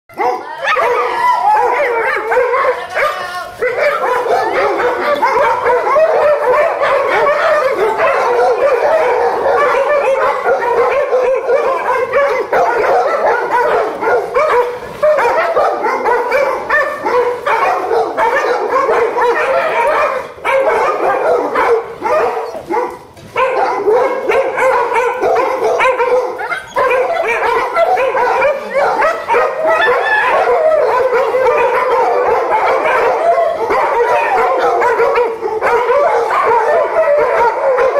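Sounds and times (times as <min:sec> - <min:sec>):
dogs barking: 0:00.1 - 0:37.9
dogs whining and yipping: 0:00.2 - 0:37.9.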